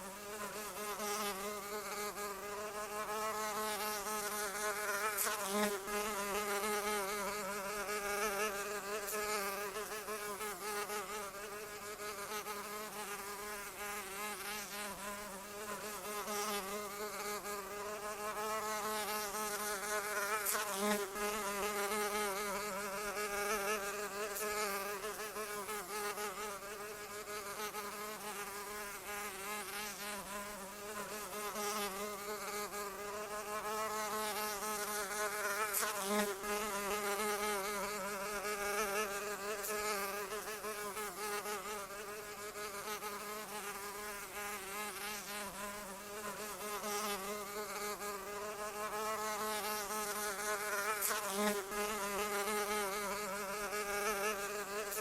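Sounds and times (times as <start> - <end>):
fly buzzing: 0.0 - 55.0.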